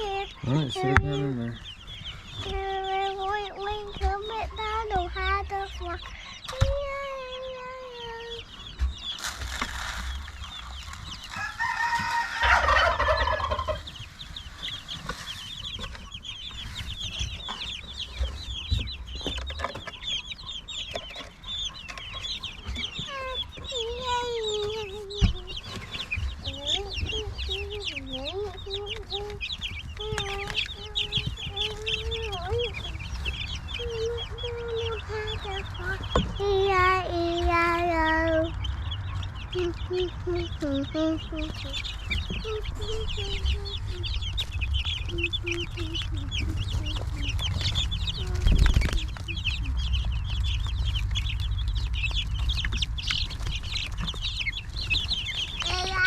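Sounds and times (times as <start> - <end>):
chickens peeping and clucking: 0.0 - 56.0.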